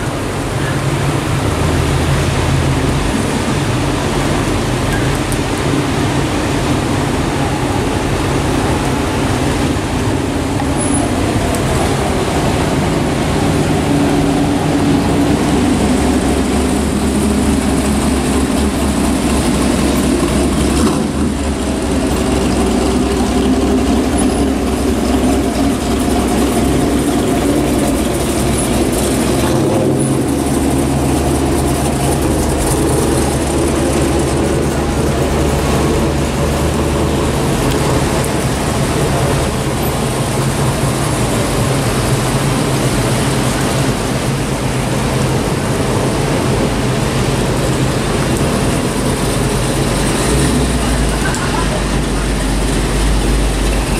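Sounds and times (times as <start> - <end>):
car engines rumbling past: 0.0 - 53.9
surf hissing: 0.0 - 53.9.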